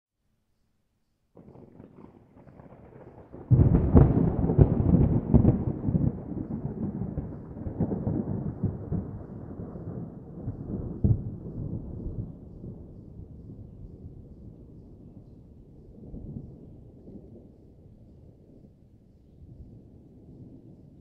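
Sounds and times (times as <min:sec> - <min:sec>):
thunder rumbling and cracking: 0:01.4 - 0:18.7.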